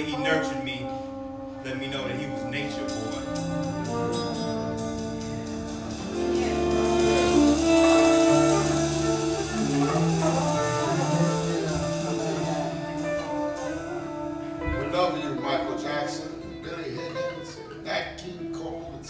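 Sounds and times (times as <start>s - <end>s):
instrumental music with held notes: 0.0s - 19.0s.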